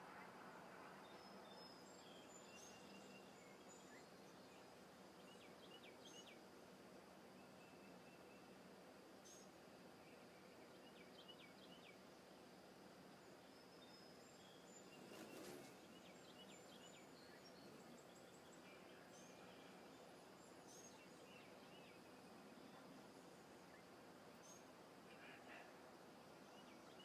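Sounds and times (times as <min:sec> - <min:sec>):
soft rush of noise: 0:00.0 - 0:27.0
small birds chirping: 0:00.6 - 0:27.0.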